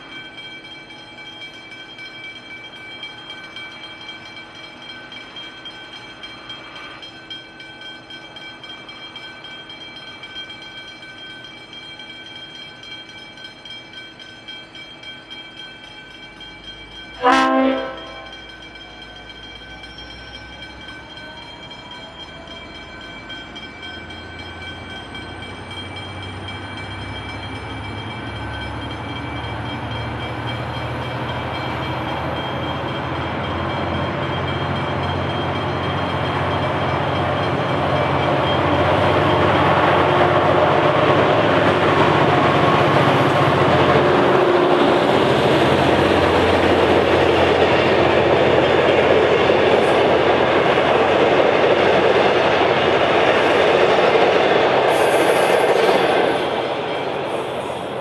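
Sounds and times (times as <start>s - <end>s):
diesel locomotive engine: 0.0s - 58.0s.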